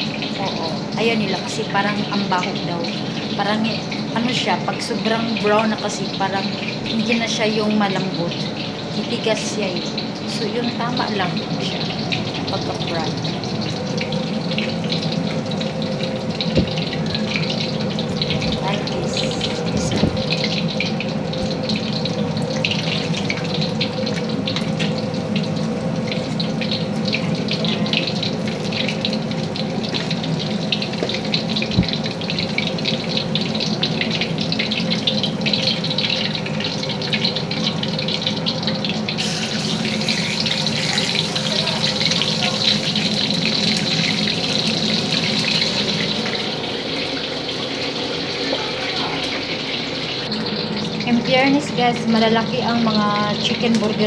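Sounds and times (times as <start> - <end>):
patties sizzling in hot oil: 0.0 - 54.0.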